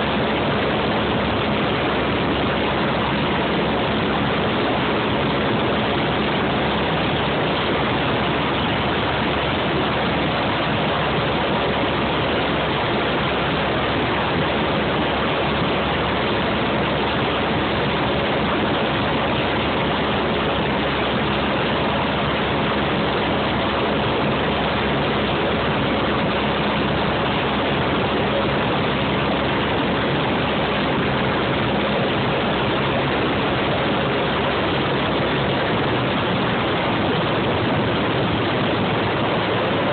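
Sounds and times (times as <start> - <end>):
aircraft engine and propeller hum: 0.0 - 39.9
rush of airflow: 0.0 - 39.9.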